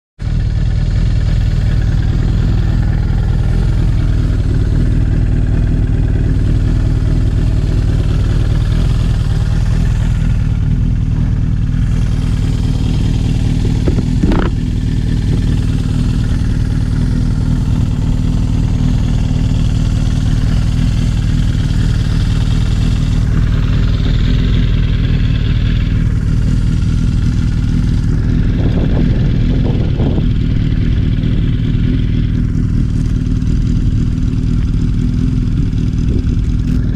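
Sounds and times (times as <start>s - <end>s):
motorcycle engine idling: 0.2s - 36.9s.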